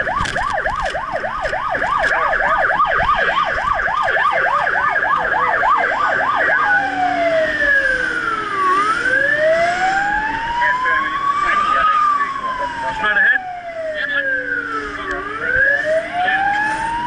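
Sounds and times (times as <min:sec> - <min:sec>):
electronic siren: 0:00.0 - 0:17.0.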